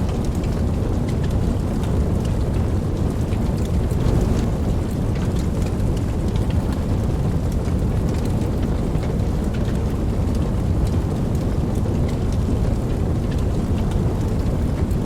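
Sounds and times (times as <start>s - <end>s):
rain rumbling wash: 0.0s - 15.0s
raindrops pattering: 0.0s - 15.0s.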